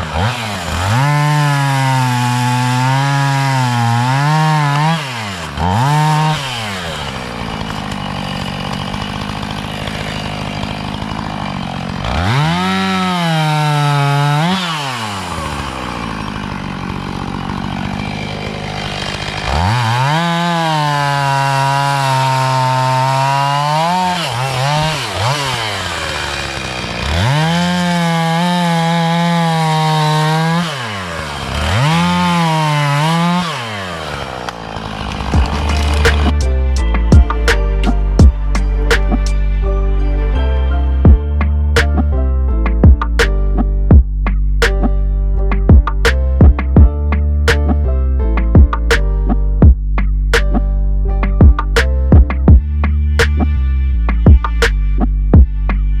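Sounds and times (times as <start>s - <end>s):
chainsaw revving and cutting wood: 0.0s - 50.7s, 51.4s - 56.0s.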